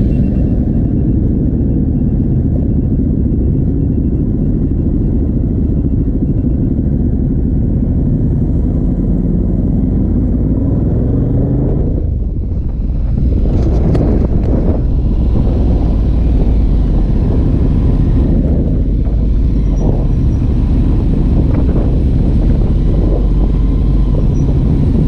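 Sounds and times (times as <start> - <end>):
motorcycle engine deep rumble: 0.0 - 25.0.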